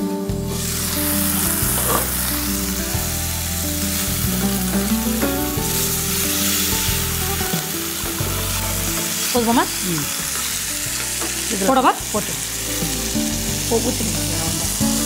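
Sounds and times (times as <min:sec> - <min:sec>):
background music: 0:00.0 - 0:15.0
vegetables sizzling in oil: 0:00.3 - 0:15.0.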